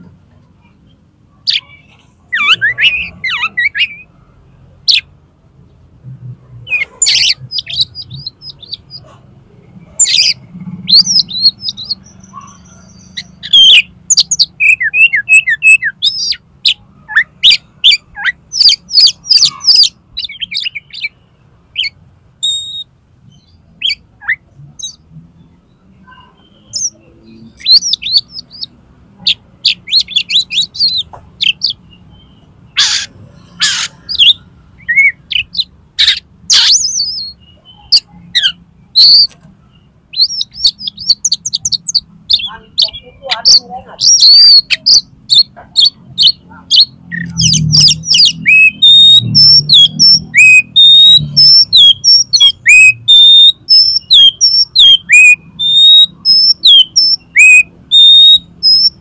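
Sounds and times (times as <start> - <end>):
bird singing whistles and trills: 2.4 - 4.1, 10.0 - 21.2, 21.8 - 25.0, 26.0 - 28.7, 29.3 - 39.3, 40.1 - 59.0.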